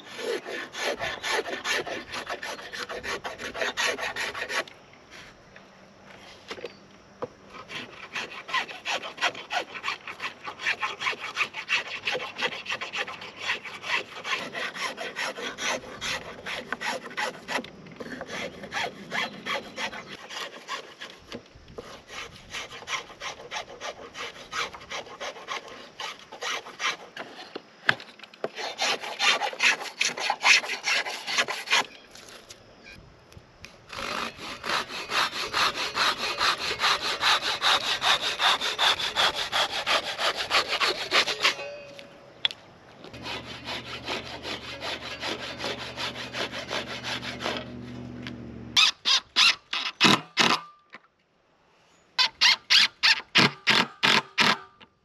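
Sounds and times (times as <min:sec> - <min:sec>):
blade scraping wood: 0:00.0 - 0:05.4, 0:07.5 - 0:32.6, 0:33.9 - 0:41.7, 0:43.0 - 0:50.6.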